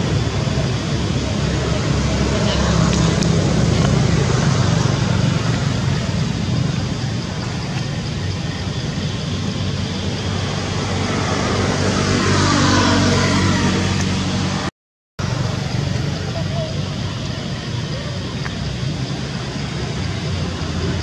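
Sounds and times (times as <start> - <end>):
traffic engine hum: 0.0 - 21.0.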